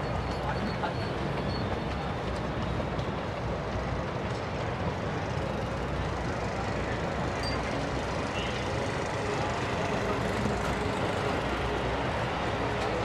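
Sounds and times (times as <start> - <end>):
rumble of passing traffic: 0.0 - 13.0.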